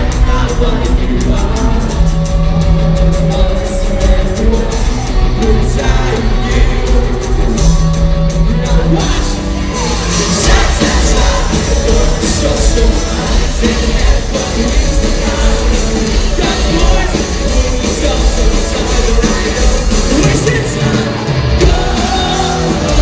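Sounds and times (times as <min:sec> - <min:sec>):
live rock band playing: 0:00.0 - 0:23.0
person singing: 0:00.0 - 0:23.0.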